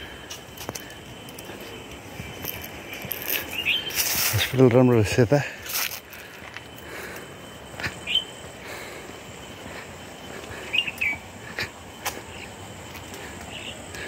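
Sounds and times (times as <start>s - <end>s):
faint steady high tone: 0.0s - 14.0s
small birds chirping: 0.0s - 14.0s.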